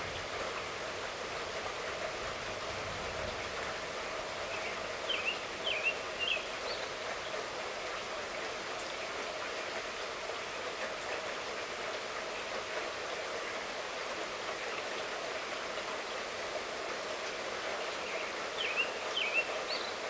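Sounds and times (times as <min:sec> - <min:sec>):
light rainfall hiss: 0:00.0 - 0:20.0.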